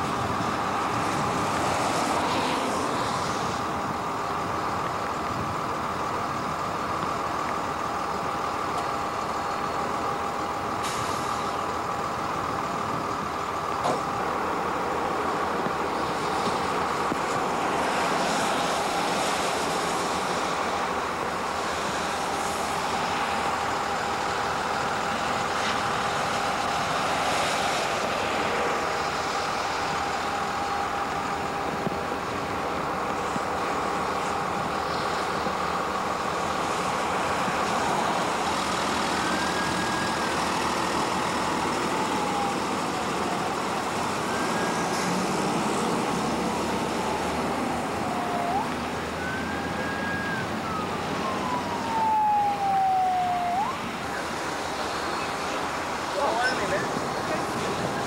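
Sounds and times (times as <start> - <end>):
emergency siren wailing: 0.0 - 58.0
traffic on a wet highway: 0.0 - 58.0.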